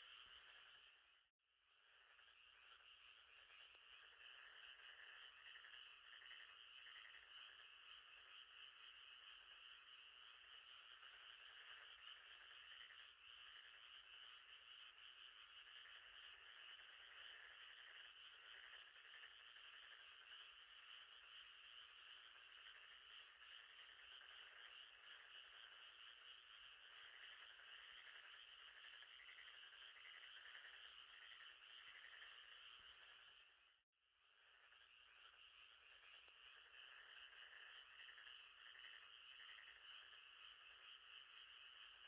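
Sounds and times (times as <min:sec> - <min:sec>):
frogs calling: 0:00.0 - 0:01.2, 0:01.8 - 0:33.7, 0:34.4 - 0:42.0.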